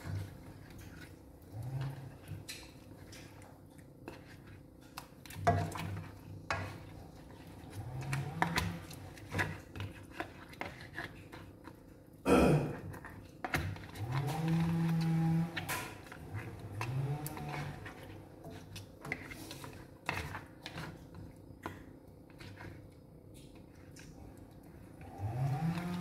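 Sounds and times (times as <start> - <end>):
spatula scraping and knocking wok: 0.0 - 3.3, 4.0 - 11.8, 12.8 - 22.8.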